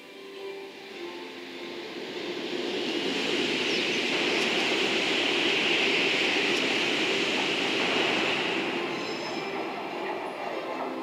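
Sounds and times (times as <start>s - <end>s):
train wheels on rails: 0.1s - 11.0s.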